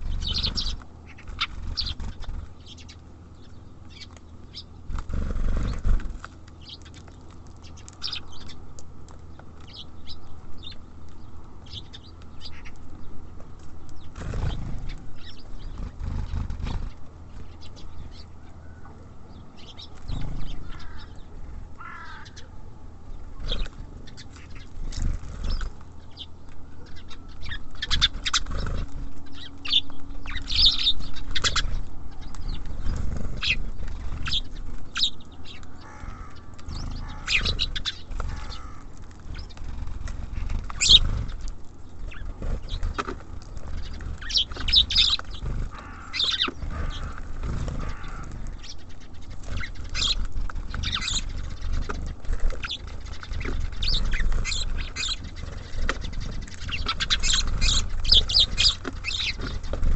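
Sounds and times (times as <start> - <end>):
wing flutters: 0.0 - 3.0, 4.8 - 9.8, 13.8 - 18.1, 23.4 - 26.1, 26.9 - 59.9
birds pecking on feeder: 0.0 - 18.2, 19.3 - 59.9
songbirds chirping: 0.0 - 59.9.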